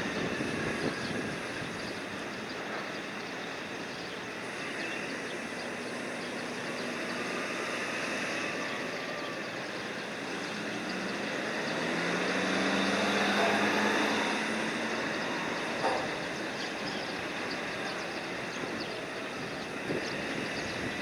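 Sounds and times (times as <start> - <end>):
crane engine running: 0.0 - 21.0.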